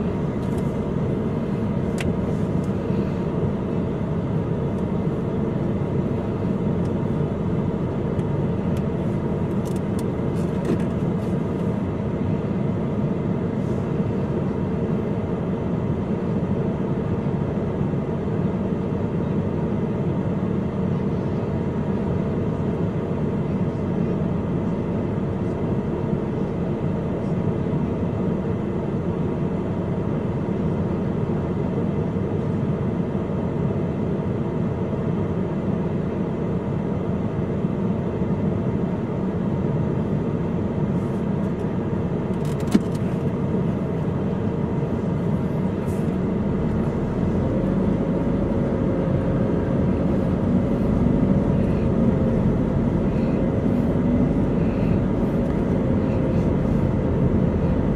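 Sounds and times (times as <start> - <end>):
car engine rumble: 0.0 - 57.9.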